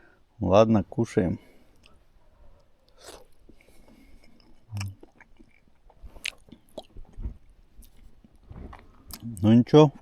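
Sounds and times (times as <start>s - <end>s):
man chewing sausages: 1.6s - 10.0s.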